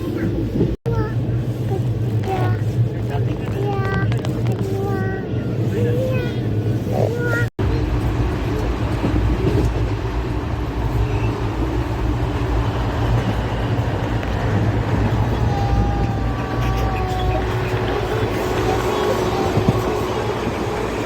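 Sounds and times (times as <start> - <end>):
passenger train rumbling: 0.0 - 21.0.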